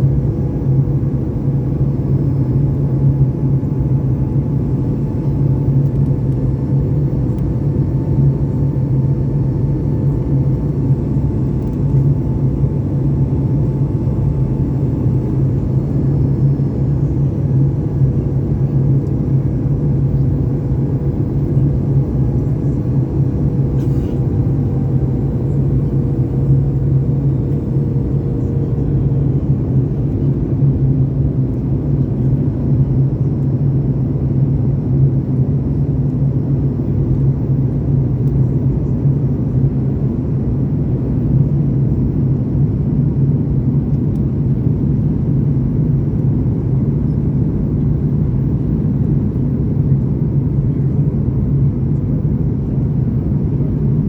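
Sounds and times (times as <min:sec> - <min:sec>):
jet engines and airflow rumble: 0:00.0 - 0:54.0.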